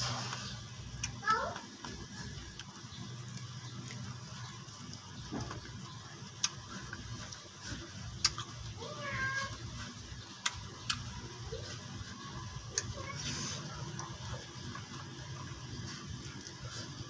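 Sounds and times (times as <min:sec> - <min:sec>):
chewing: 0:00.0 - 0:08.8, 0:09.5 - 0:17.0.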